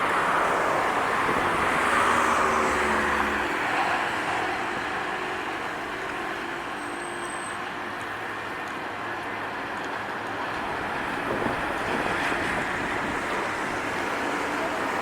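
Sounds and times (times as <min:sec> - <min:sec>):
truck passing on road: 0:00.0 - 0:15.0.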